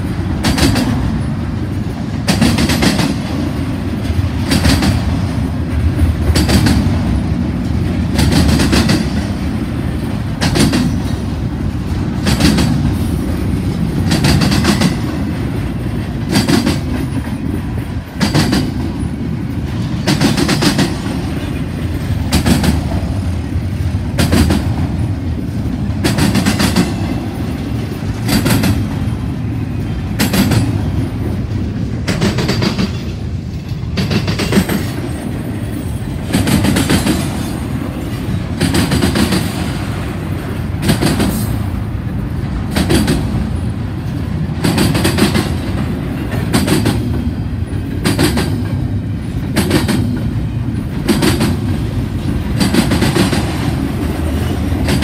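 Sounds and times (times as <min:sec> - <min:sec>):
steel wheels clacking: 0:00.0 - 0:55.0
wheels rumbling on rail: 0:00.0 - 0:55.0.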